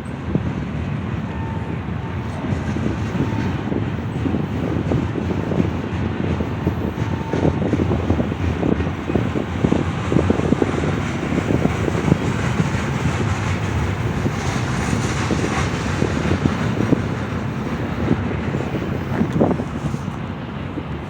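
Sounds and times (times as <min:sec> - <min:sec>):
train passing rumble: 0:00.0 - 0:21.0
wind buffeting microphone: 0:00.0 - 0:21.0.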